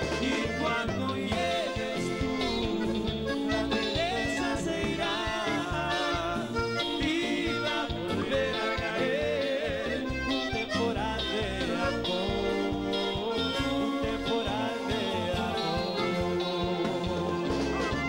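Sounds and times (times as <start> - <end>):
accordion: 0.0 - 18.0
live latin dance band: 0.0 - 18.0
man singing into a microphone: 0.0 - 18.0
percussion: 0.0 - 18.0.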